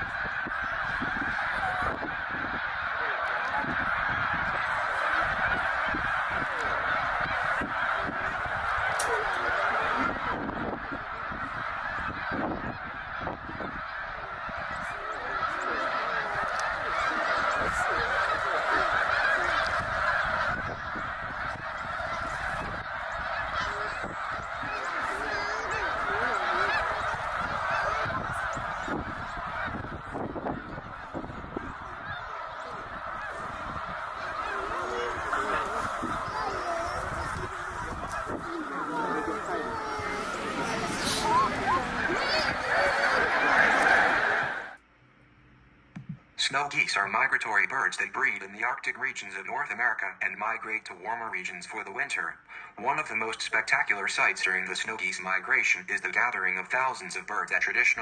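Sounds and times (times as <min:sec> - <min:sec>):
geese honking: 0:00.0 - 0:44.8, 0:46.4 - 0:58.0.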